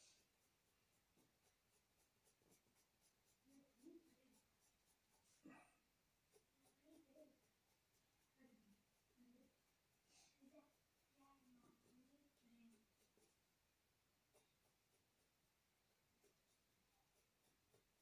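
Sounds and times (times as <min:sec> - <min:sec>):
pencil scratching on paper: 0:00.0 - 0:18.0.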